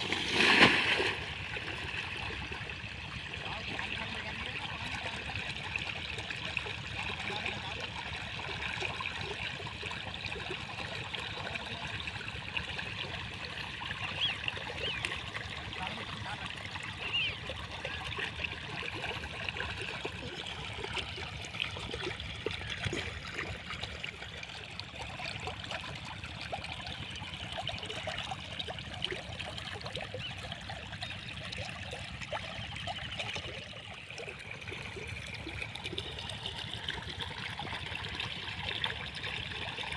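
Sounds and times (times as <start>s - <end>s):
diesel water pump engine: 0.0s - 39.9s
water pouring from a pipe: 0.0s - 39.9s.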